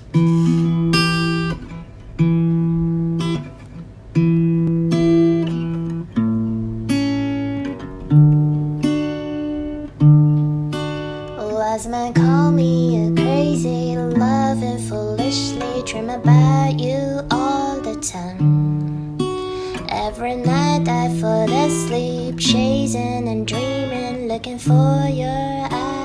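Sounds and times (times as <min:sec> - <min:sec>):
guitar chords and picked notes: 0:00.0 - 0:26.0.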